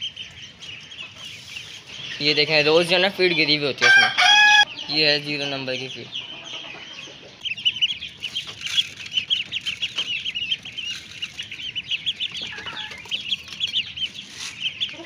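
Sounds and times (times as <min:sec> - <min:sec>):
ducklings peeping rapidly: 0:00.0 - 0:15.0.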